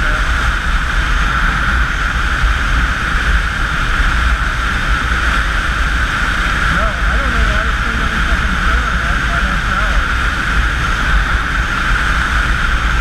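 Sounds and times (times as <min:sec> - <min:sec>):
road and engine noise: 0:00.0 - 0:13.0
wind rushing over microphone: 0:00.0 - 0:13.0.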